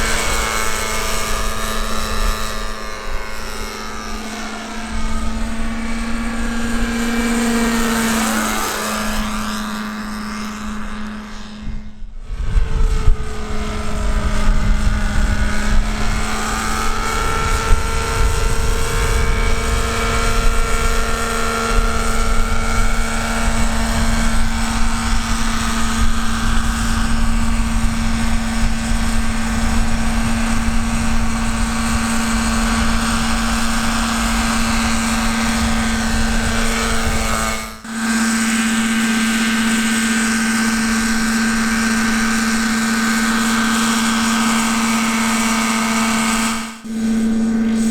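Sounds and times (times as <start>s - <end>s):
model helicopter engine whine: 0.0s - 47.9s.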